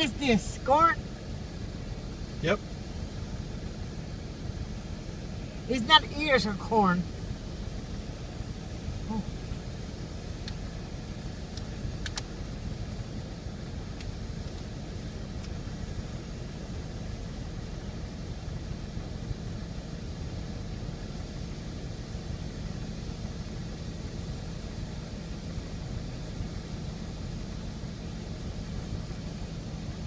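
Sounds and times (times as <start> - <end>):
harvester engine droning: 0.0 - 30.0.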